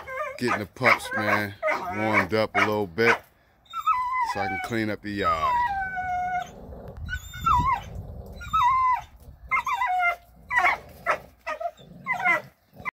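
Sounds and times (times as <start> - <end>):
dogs whining and yipping: 0.0 - 13.0.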